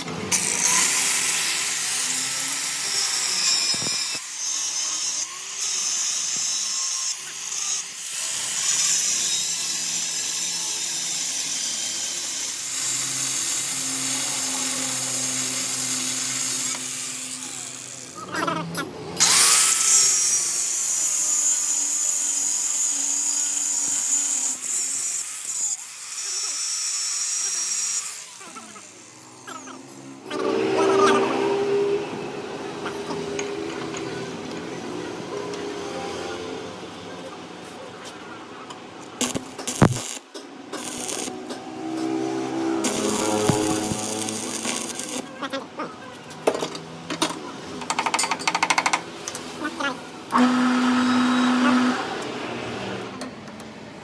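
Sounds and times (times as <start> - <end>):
power tool whining on metal: 0.0 - 18.5, 19.2 - 34.6, 39.1 - 45.6, 47.2 - 53.3.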